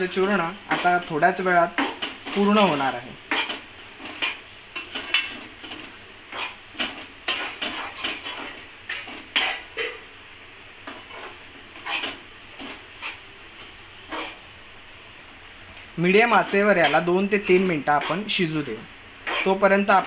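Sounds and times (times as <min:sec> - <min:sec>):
metal spoon scraping metal pan: 0:00.2 - 0:09.9, 0:10.9 - 0:13.2, 0:14.1 - 0:14.4, 0:16.3 - 0:20.0.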